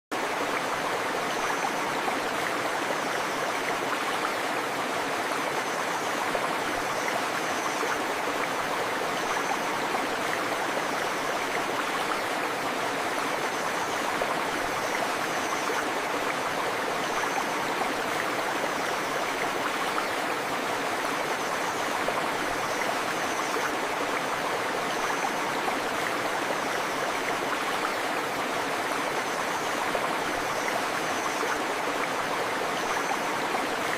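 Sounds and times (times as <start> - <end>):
river flowing: 0.1 - 33.9.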